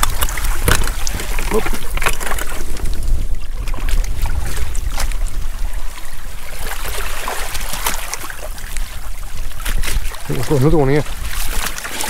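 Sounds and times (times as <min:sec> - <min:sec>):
seawater trickling among rocks: 0:00.0 - 0:12.0
wind buffeting microphone: 0:00.0 - 0:12.0.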